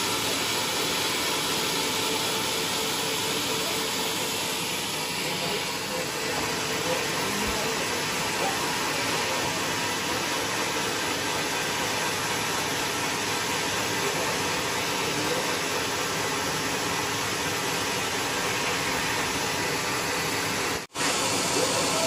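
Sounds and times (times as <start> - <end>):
band saw running: 0.0 - 22.0.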